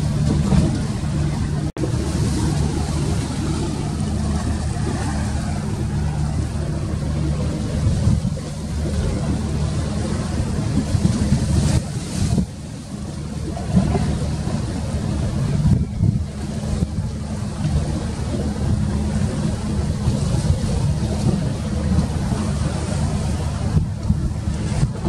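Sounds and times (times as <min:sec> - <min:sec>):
engine running steadily: 0:00.0 - 0:25.0
rushing wind or water: 0:00.0 - 0:25.0.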